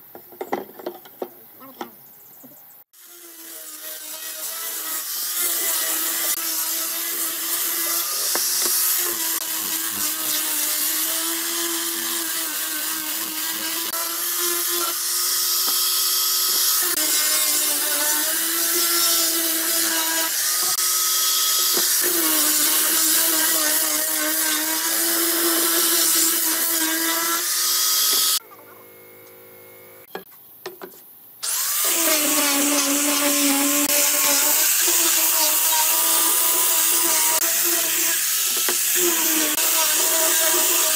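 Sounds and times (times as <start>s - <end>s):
angle grinder sanding wood: 2.9s - 28.4s, 31.4s - 40.9s.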